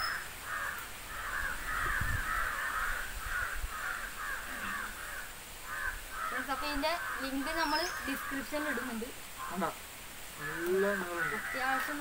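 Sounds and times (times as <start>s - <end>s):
crows cawing: 0.0s - 12.0s.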